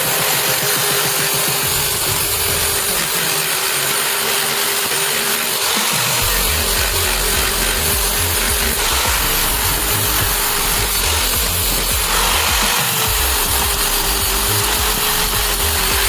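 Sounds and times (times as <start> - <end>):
power tool grinding: 0.0 - 16.0.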